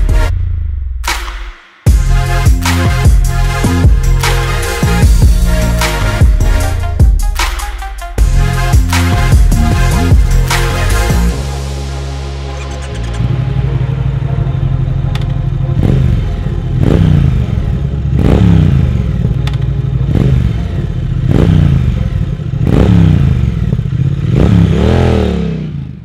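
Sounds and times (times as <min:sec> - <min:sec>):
motorcycle engine revving: 0:01.9 - 0:07.0, 0:08.2 - 0:11.6, 0:12.5 - 0:26.0.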